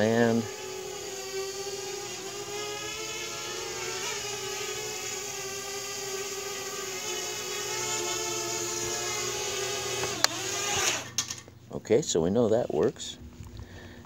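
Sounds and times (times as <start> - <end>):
drone propellers whirring: 0.0 - 11.5.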